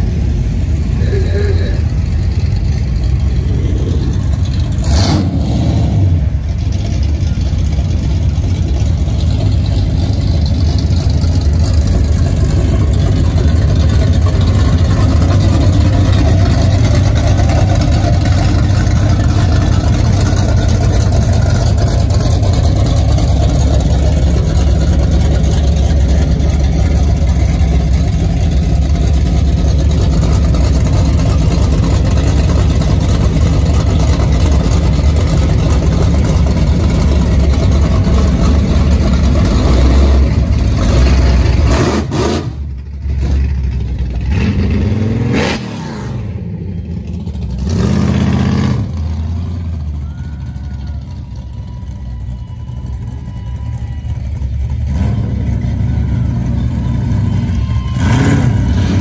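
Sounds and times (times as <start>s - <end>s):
car engines rumbling: 0.0s - 59.0s.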